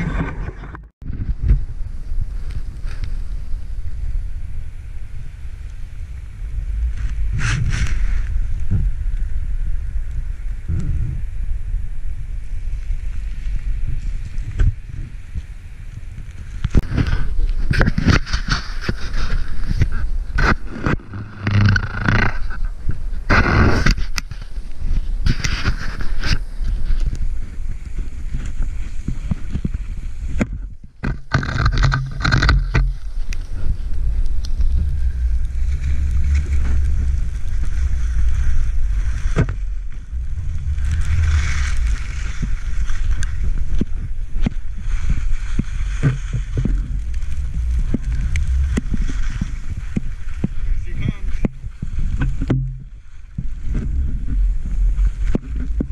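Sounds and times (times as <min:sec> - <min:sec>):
skis scraping over snow: 0:00.0 - 0:30.4, 0:31.2 - 0:55.9
wind buffeting microphone: 0:00.0 - 0:55.9.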